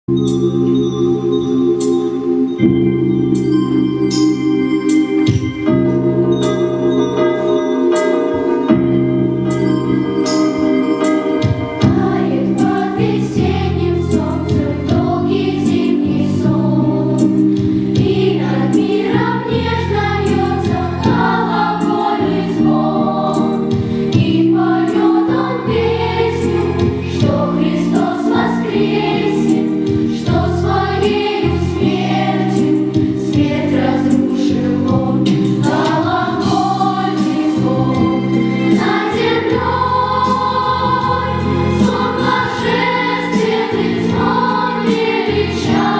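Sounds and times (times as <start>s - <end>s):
church choir singing: 5.8s - 45.9s.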